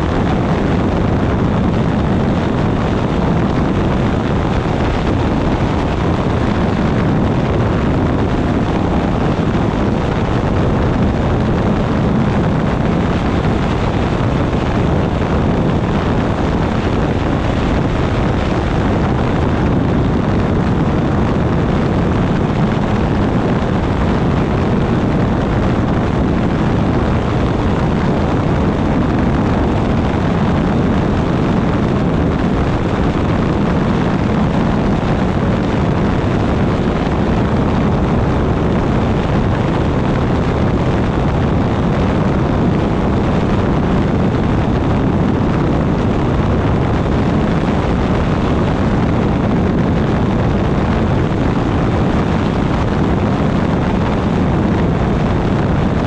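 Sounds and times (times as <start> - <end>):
engine and propeller drone: 0.0 - 56.0
wind rushing over microphone: 0.0 - 56.0.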